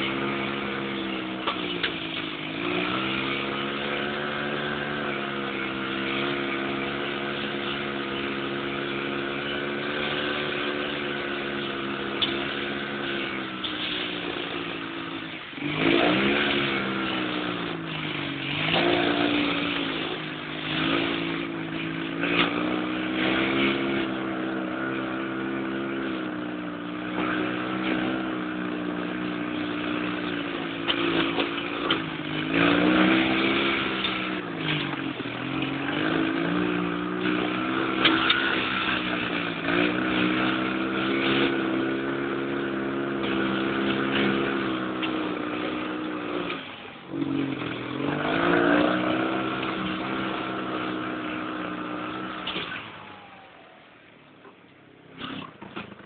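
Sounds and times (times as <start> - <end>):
dune buggy engine running: 0.0 - 56.0.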